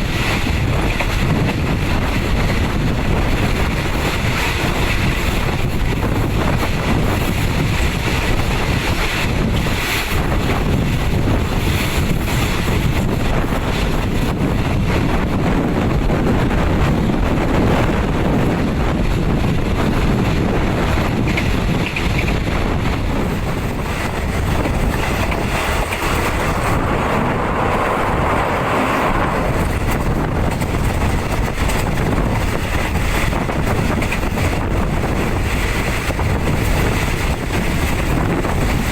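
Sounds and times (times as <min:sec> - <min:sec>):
moving train rumble: 0:00.0 - 0:38.9
wind buffeting microphone: 0:00.0 - 0:38.9.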